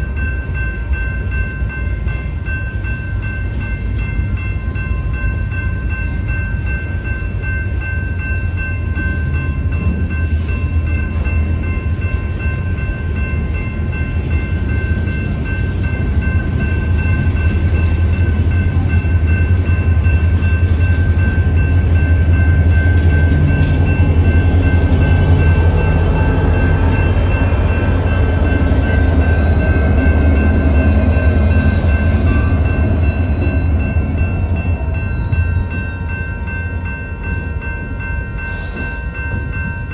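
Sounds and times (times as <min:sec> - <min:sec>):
crossing bell ringing: 0:00.0 - 0:39.9
diesel locomotive engines: 0:00.0 - 0:39.9
freight train rumbling on rails: 0:00.0 - 0:39.9.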